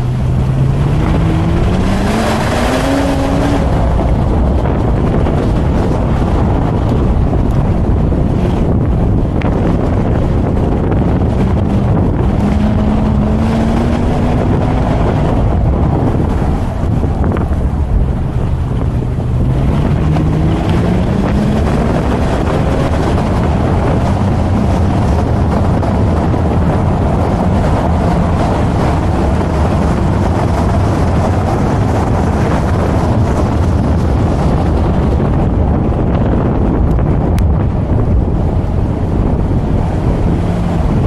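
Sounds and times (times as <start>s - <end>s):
car engine revving: 0.0s - 41.0s
road roar: 0.0s - 41.0s
wind buffeting microphone: 0.0s - 41.0s.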